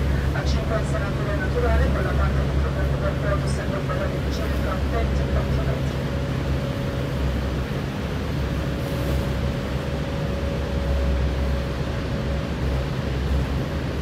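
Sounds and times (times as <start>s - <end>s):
boat engine rumbling: 0.0s - 14.0s
wind and water hiss: 0.0s - 14.0s.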